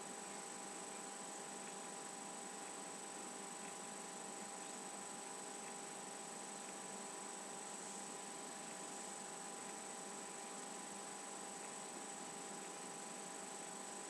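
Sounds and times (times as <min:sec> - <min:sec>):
faint high-pitched whine: 0:00.0 - 0:14.0
low electrical hum: 0:00.0 - 0:14.0.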